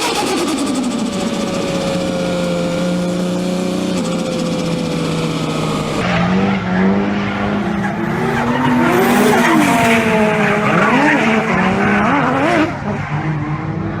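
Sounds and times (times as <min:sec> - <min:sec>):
car engine at steady revs: 0:00.0 - 0:14.0.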